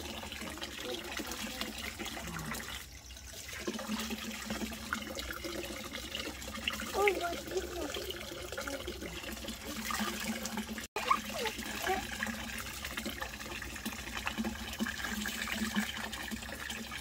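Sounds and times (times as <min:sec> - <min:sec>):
water running: 0:00.0 - 0:17.0.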